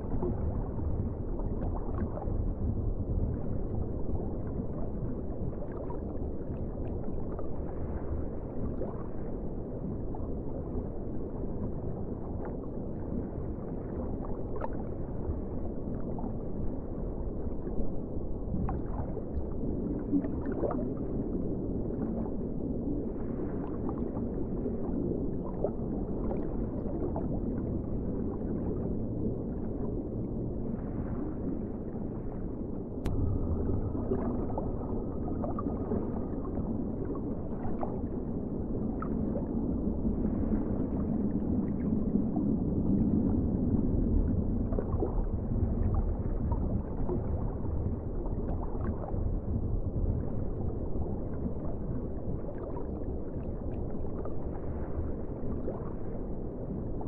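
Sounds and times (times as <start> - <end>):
underwater rumble with bubbling: 0.0 - 57.0.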